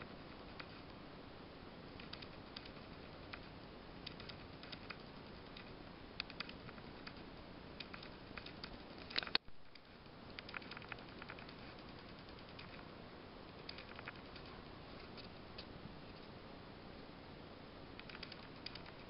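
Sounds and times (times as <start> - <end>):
faint steady hiss: 0.0 - 19.0
small clicks and ticks: 0.3 - 1.0, 1.9 - 12.9, 13.5 - 16.4, 18.0 - 19.0.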